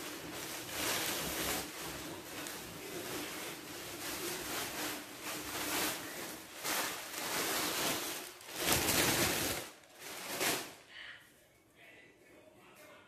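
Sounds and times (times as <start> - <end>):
packing material rustling: 0.0 - 10.9.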